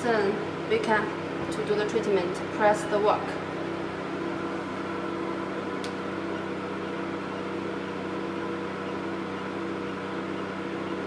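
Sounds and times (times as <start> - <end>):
machine electrical hum: 0.0 - 11.0.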